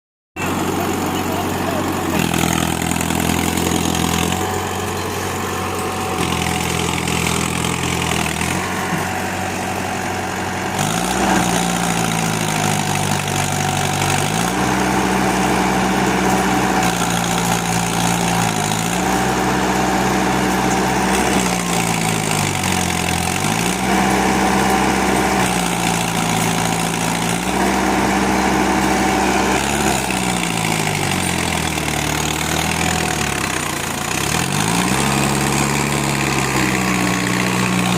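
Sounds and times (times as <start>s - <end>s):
tractor diesel engine running: 0.4s - 37.9s.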